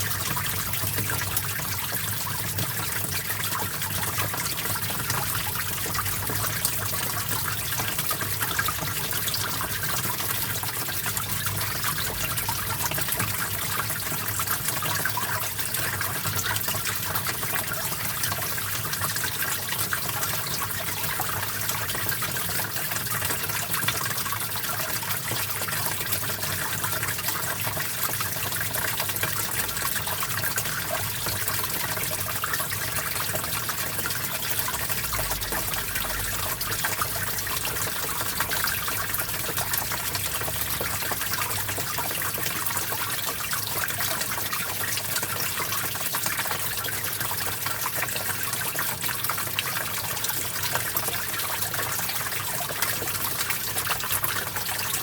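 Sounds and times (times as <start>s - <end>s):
stream trickling and splashing: 0.0s - 55.0s.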